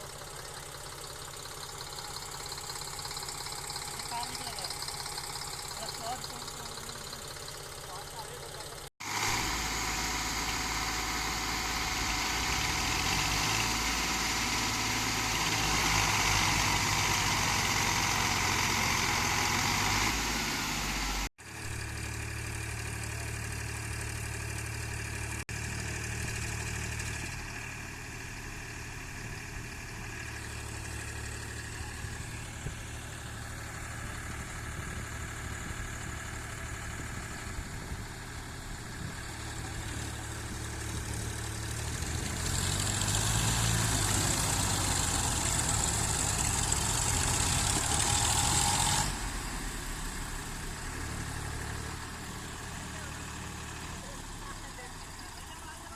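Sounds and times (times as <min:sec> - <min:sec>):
loud tractor diesel engine: 0:00.0 - 0:55.9
quieter tractor engine running: 0:00.0 - 0:55.9.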